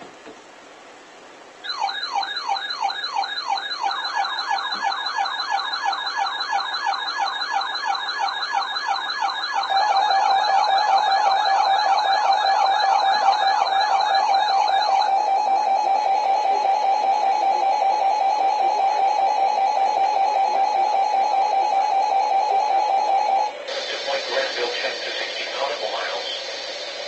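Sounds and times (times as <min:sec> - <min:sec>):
electronic siren alarm wailing: 0:01.6 - 0:24.4
steady alarm tone: 0:01.6 - 0:27.0.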